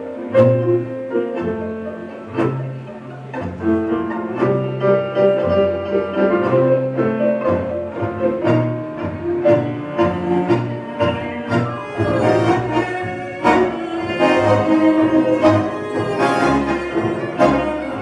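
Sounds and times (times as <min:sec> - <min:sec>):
tango ensemble playing: 0:00.0 - 0:18.0.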